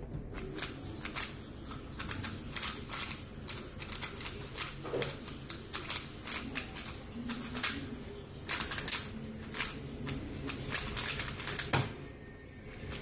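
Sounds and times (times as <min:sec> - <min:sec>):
speedcube clicking: 0:00.4 - 0:07.8, 0:08.5 - 0:11.8.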